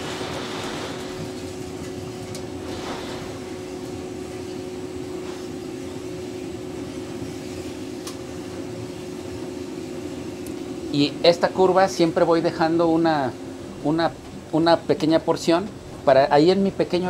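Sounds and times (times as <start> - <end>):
cooling fan humming: 0.0 - 17.0.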